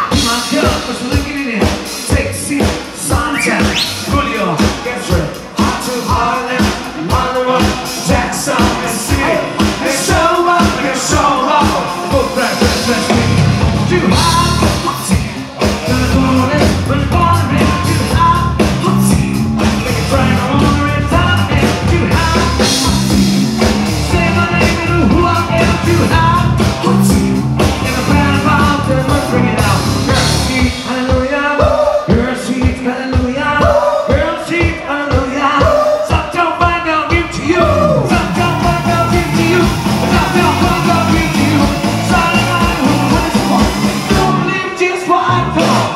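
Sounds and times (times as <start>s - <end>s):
drums: 0.0s - 45.9s
live rock band playing: 0.0s - 45.9s
man singing: 0.0s - 45.9s
electric bass: 2.1s - 31.0s, 37.2s - 45.9s.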